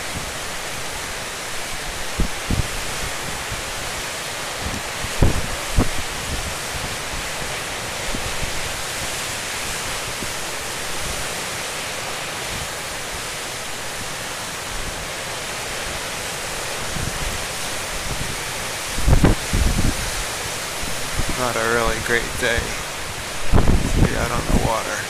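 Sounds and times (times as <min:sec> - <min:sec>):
strong gusting wind: 0:00.0 - 0:25.0
waves breaking: 0:00.0 - 0:25.0.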